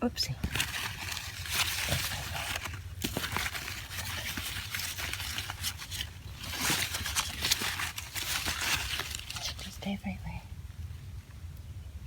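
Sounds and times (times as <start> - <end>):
plants rustling and crinkling: 0.2 - 11.4
small crackles: 0.3 - 11.7.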